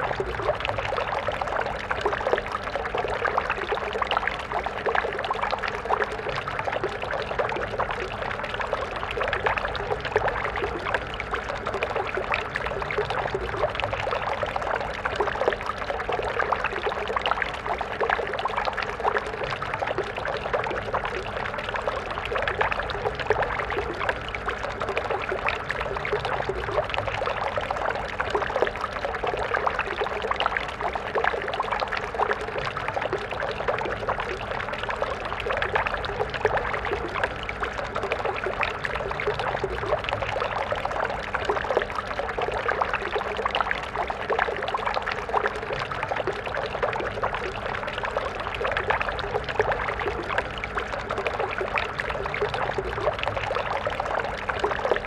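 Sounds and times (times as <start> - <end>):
stream babbling and splashing: 0.0 - 55.0.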